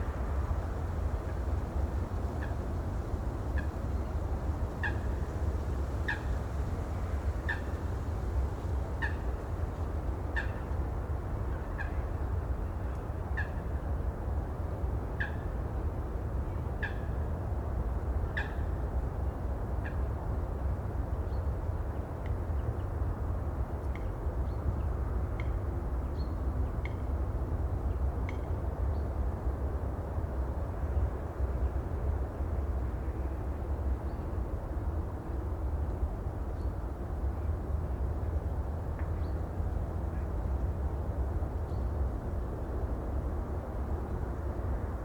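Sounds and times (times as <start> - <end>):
wind: 0.0 - 45.0.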